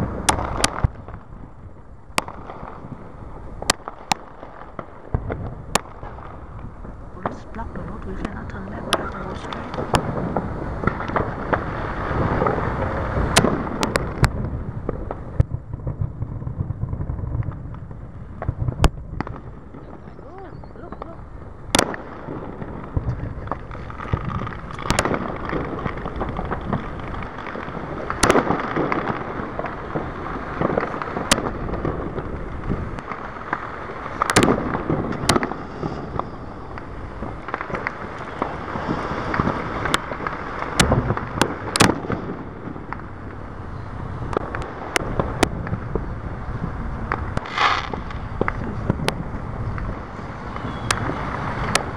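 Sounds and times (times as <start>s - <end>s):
distant fireworks bangs: 0.0s - 51.9s
low background rumble: 0.0s - 51.9s.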